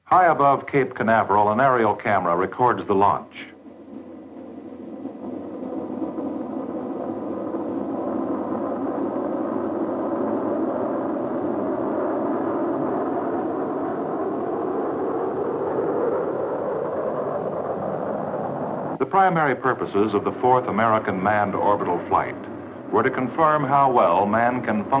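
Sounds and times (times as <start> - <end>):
rocket engines roaring: 0.0 - 25.0.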